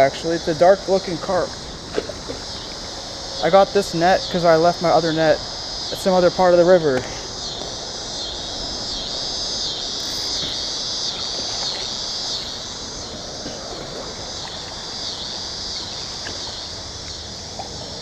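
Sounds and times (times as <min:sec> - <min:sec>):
insects droning: 0:00.0 - 0:18.0
outdoor background hiss: 0:00.0 - 0:18.0.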